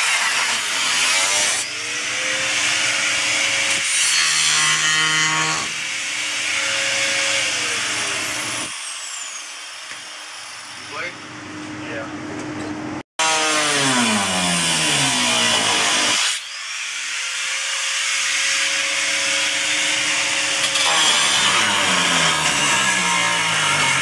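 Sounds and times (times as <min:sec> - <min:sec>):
angle grinder cutting sheet metal: 0:00.0 - 0:11.1, 0:13.2 - 0:24.0.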